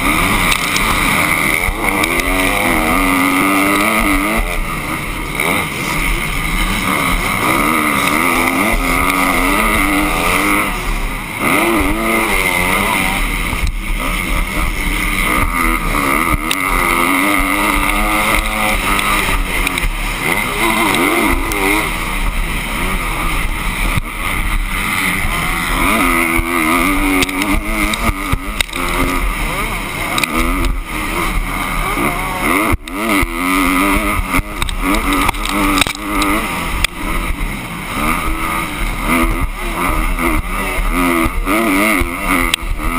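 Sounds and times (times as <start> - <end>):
dirt bike engines racing: 0.0 - 42.9.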